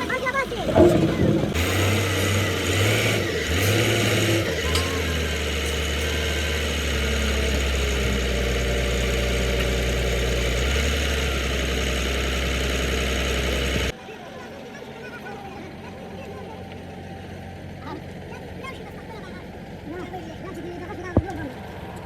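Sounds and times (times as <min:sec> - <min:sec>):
heavy diesel engine running: 0:00.0 - 0:14.0, 0:15.3 - 0:22.0.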